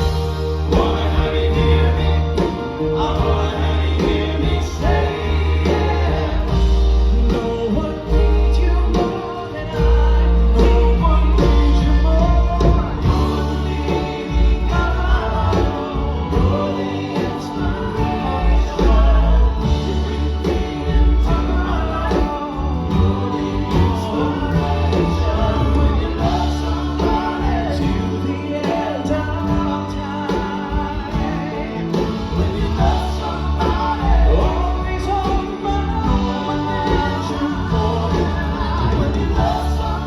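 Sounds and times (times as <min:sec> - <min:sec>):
live band playing soft-rock ballad: 0:00.0 - 0:40.0
male group vocal harmonies: 0:00.0 - 0:40.0.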